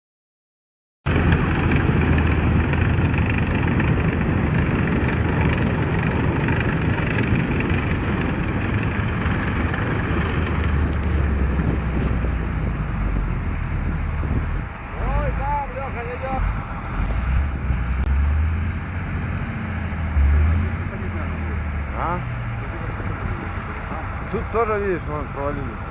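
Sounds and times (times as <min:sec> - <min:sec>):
wind noise on microphone: 0:01.1 - 0:24.3
vehicle engine droning: 0:01.1 - 0:25.9.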